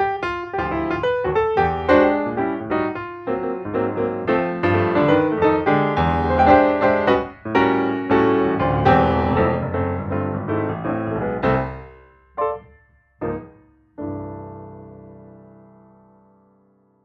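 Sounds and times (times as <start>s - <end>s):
piano playing notes and chords: 0.0s - 17.0s.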